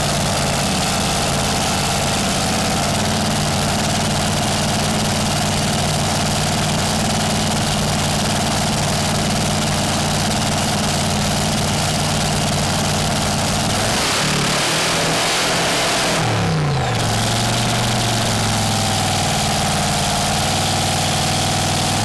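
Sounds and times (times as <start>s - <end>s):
dragster engine idling: 0.0s - 22.0s.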